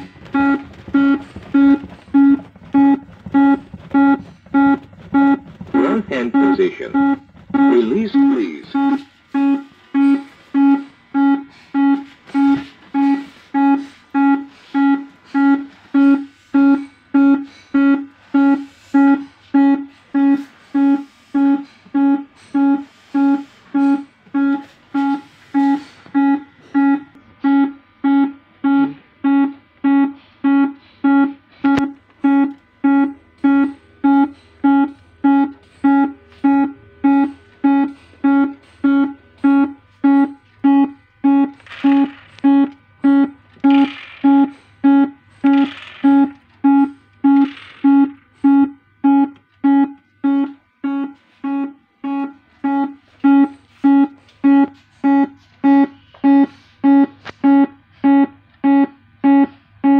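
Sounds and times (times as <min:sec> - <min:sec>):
electronic beeping: 0:00.0 - 0:59.9.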